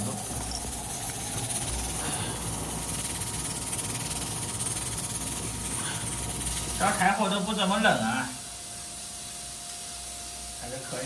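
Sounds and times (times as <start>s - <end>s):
steam hissing from pressure cooker: 0.0s - 11.0s.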